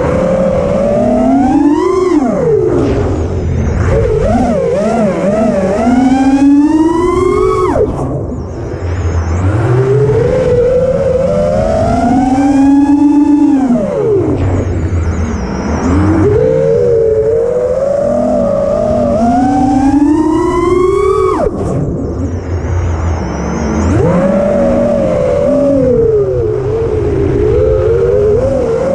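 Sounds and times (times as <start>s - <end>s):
drone motors whining: 0.0s - 28.9s.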